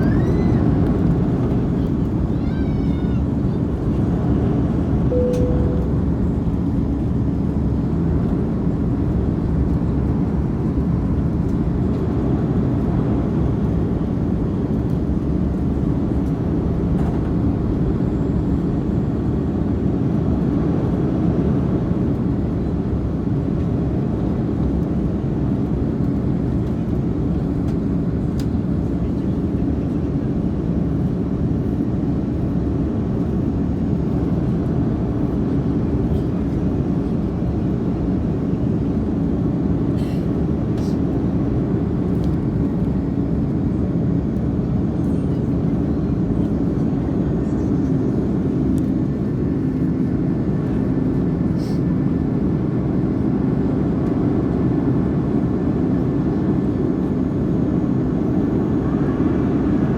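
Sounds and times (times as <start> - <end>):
jet engine cabin roar: 0.0 - 59.9.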